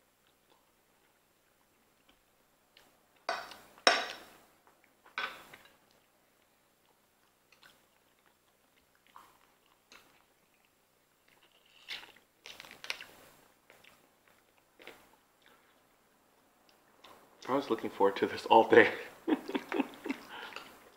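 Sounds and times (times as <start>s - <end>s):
biting and chewing food: 0.0s - 17.5s.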